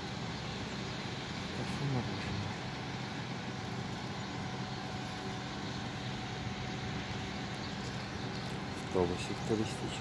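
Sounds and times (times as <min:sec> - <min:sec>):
ship machinery hum: 0:00.0 - 0:10.0.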